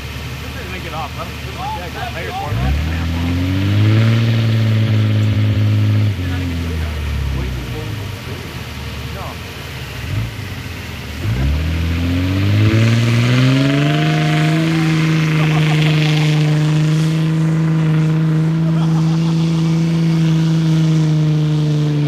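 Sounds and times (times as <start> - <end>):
diesel truck engine revving: 0.0 - 22.0.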